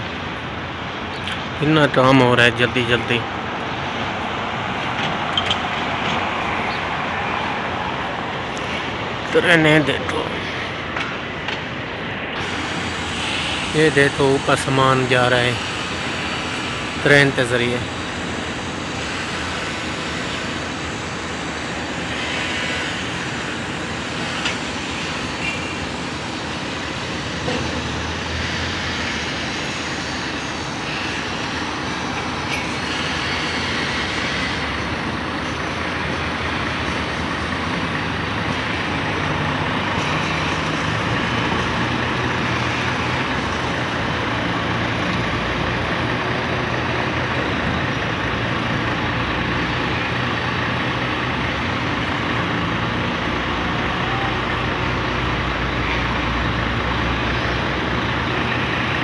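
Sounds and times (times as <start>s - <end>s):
construction machinery: 0.0s - 59.0s
road traffic: 0.0s - 59.0s.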